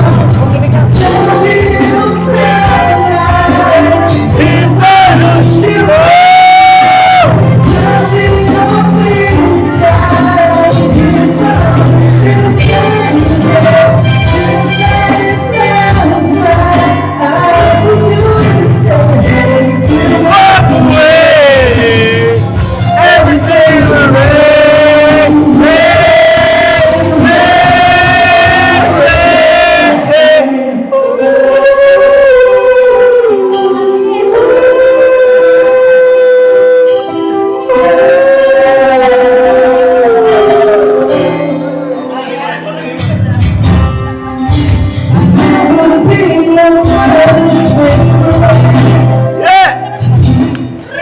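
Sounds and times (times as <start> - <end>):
backing music with low beat: 0.0 - 34.3, 36.9 - 51.0
person singing a slow ballad: 0.0 - 51.0.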